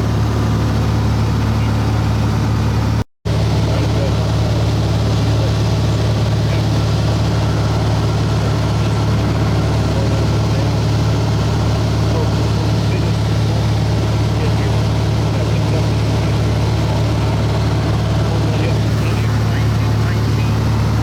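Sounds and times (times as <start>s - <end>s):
aircraft engine and propeller droning: 0.0s - 21.0s.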